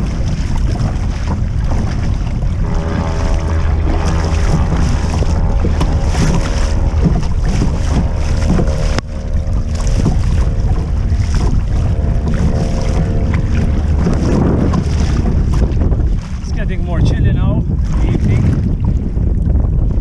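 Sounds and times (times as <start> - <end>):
water slapping against kayak: 0.0 - 20.0
wind buffeting microphone: 0.0 - 20.0.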